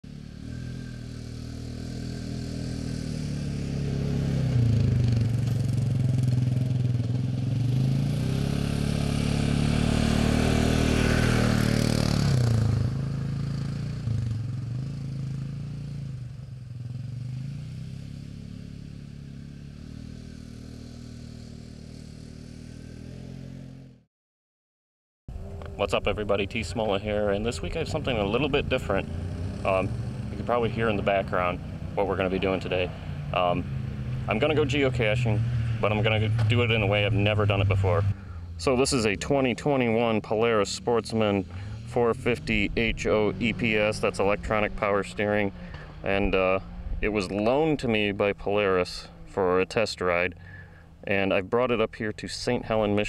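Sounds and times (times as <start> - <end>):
atv engine riding past: 0.1 - 24.0, 25.3 - 53.0.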